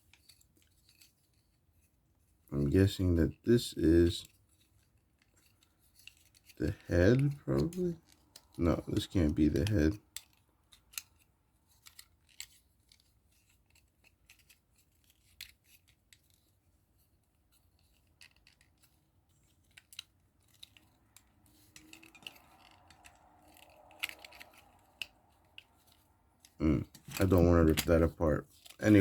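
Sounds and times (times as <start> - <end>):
plastic model parts clicking: 4.2 - 29.0.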